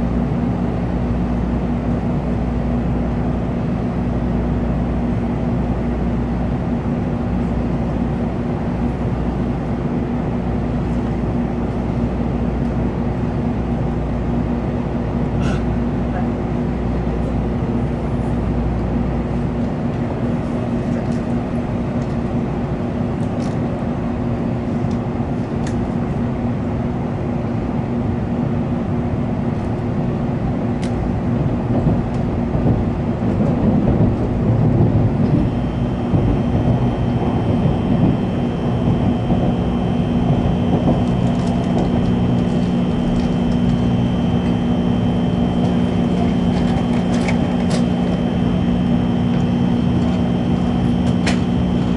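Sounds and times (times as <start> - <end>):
constant hum: 0.0 - 51.9
lower hum: 0.0 - 51.9
train running rumble: 0.0 - 51.9.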